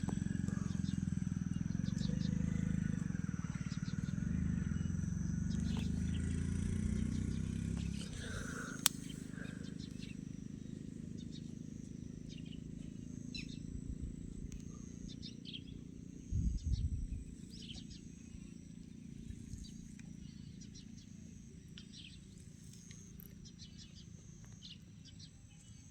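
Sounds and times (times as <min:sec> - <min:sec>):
birds chirping: 0:00.0 - 0:25.9
low steady hum: 0:00.0 - 0:25.9.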